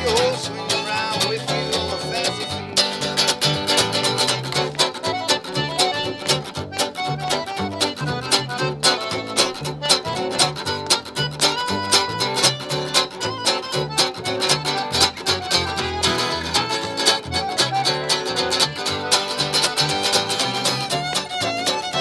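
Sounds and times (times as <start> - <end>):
accordion: 0.0 - 22.0
fiddle melody: 0.0 - 22.0
plucked upright bass: 0.0 - 22.0
strummed acoustic guitar: 0.0 - 22.0.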